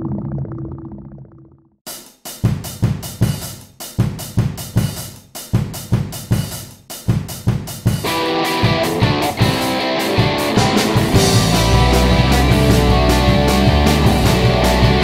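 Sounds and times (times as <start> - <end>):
drum kit rock beat: 1.9 - 15.0.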